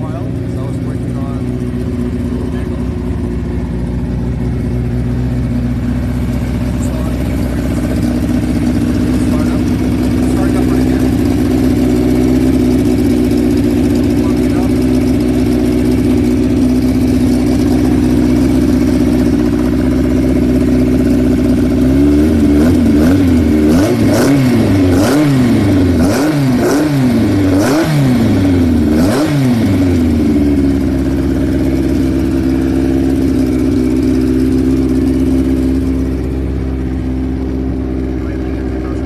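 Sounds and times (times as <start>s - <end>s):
engine throttle blips: 0.0s - 39.0s
race engine idling: 0.0s - 39.0s.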